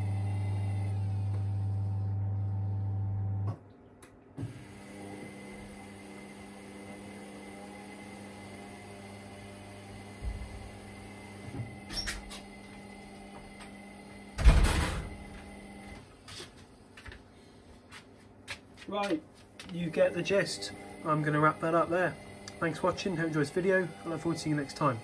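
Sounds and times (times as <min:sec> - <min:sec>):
washer dryer motor hum: 0:00.0 - 0:03.6, 0:04.4 - 0:17.2, 0:19.6 - 0:25.0.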